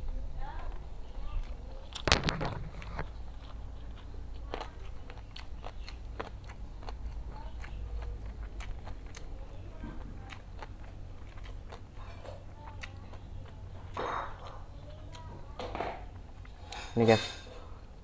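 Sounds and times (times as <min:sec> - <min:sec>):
low steady hum: 0:00.0 - 0:18.0
person chewing food: 0:00.7 - 0:18.0.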